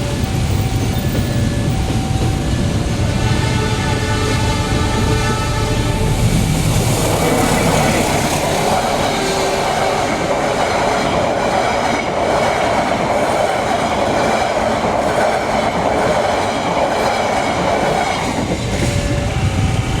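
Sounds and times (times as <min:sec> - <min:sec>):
diesel locomotive engine drone: 0:00.0 - 0:20.0
train wheels rattling on rails: 0:00.0 - 0:20.0.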